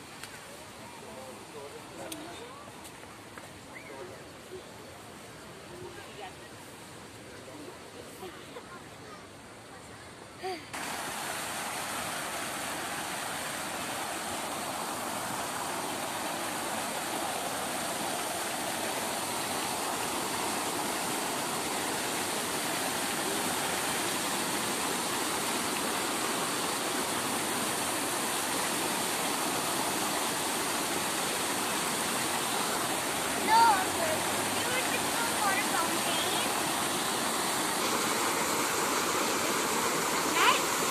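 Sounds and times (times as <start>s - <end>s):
fountain water splashing: 0.0s - 9.9s, 10.7s - 40.9s.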